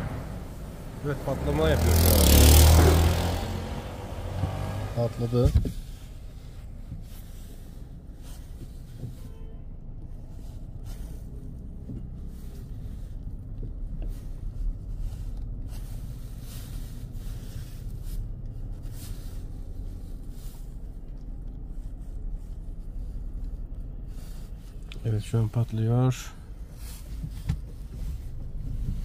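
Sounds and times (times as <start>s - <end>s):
low rumble of burning car: 0.0s - 29.0s.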